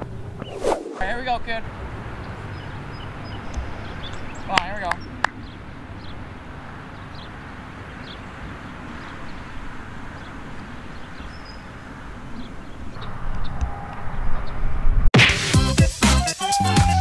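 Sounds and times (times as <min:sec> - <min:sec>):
outdoor background noise: 0:00.0 - 0:15.1.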